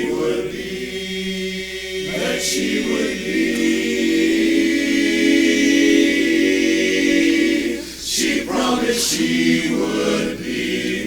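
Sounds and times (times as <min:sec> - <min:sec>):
men's a cappella chorus singing: 0:00.0 - 0:11.0.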